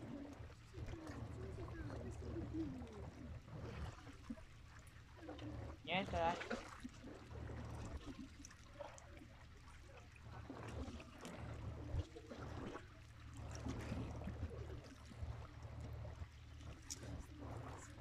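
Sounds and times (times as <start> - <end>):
water lapping against a seawall: 0.0 - 18.0.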